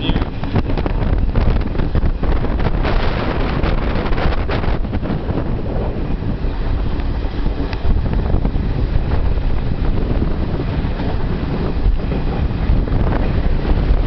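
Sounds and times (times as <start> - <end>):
train coach rumbling on rails: 0.0 - 14.0
wind buffeting microphone: 0.0 - 14.0.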